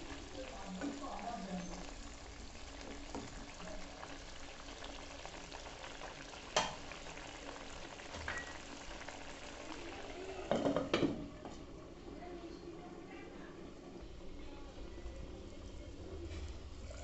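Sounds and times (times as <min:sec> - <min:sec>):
curry sizzling in a frying pan: 0:00.0 - 0:17.0.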